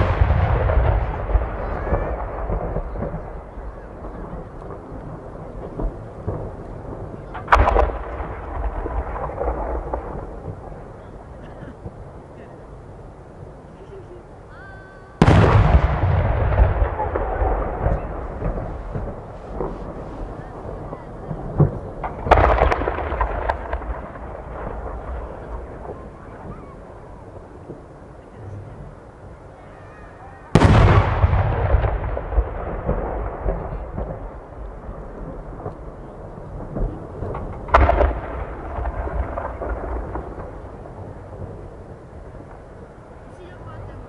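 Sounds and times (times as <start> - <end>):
firework bang: 0.0 - 12.0, 15.2 - 27.1, 30.5 - 42.6
firework cracks: 0.0 - 12.1, 15.2 - 28.0, 29.7 - 44.0
rolling rumble: 0.0 - 14.5, 15.2 - 29.8, 30.4 - 44.0.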